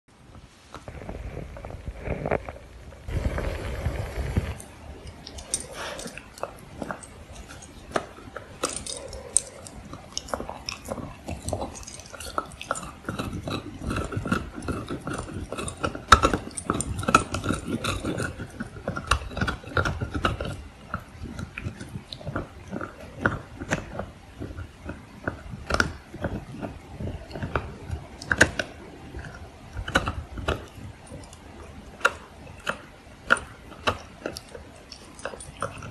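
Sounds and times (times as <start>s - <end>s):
puppy gnawing on antler: 0.2s - 35.9s
teeth scraping on antler: 0.7s - 35.9s.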